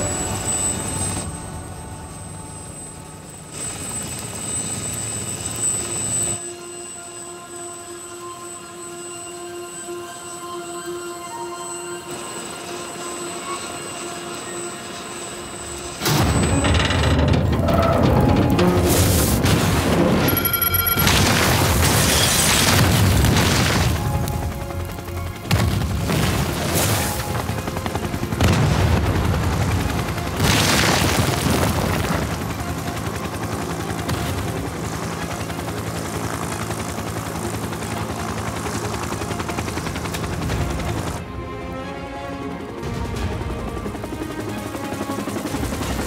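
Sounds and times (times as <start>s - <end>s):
dramatic orchestral music: 0.0s - 3.5s, 6.4s - 20.4s, 21.0s - 46.0s.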